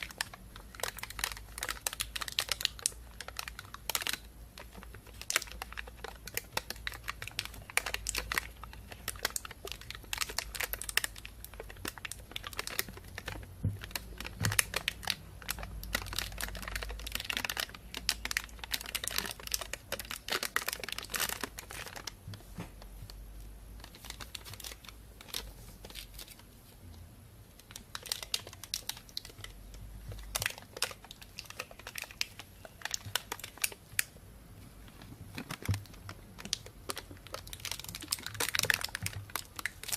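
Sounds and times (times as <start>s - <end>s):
plastic bag crinkling: 0.0s - 23.2s, 23.8s - 26.8s, 27.6s - 39.9s.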